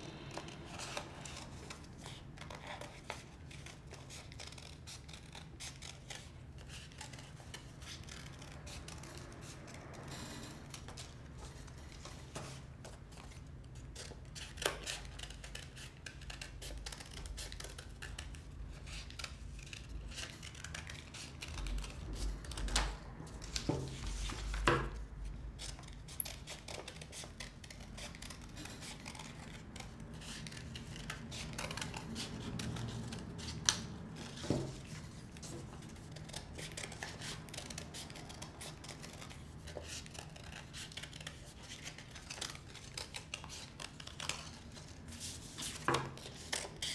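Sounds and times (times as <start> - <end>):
scissors snipping paper: 0.1 - 12.6, 13.2 - 46.9.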